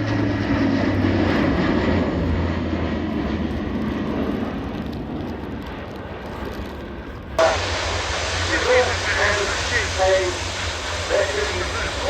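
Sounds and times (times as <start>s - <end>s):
propeller aircraft droning: 0.0s - 12.0s.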